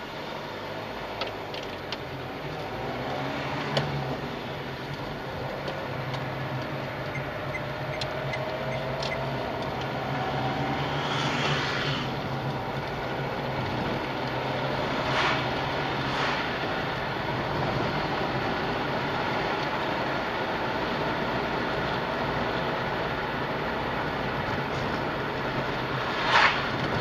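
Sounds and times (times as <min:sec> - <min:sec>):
tyre road noise: 0:00.0 - 0:27.0
car engine accelerating: 0:00.4 - 0:27.0.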